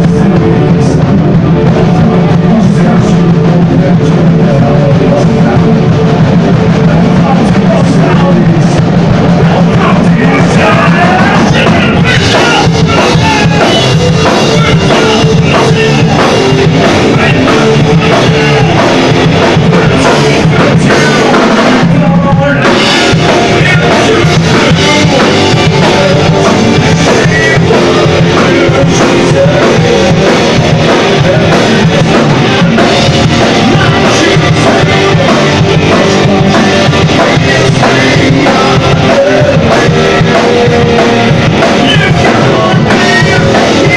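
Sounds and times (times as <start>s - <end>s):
person singing: 0.0s - 43.9s
rock band playing: 0.0s - 43.9s.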